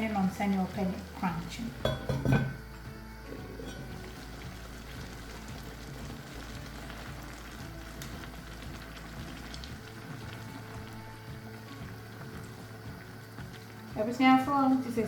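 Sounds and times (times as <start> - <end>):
cabbage steaming and sizzling: 0.0 - 15.0.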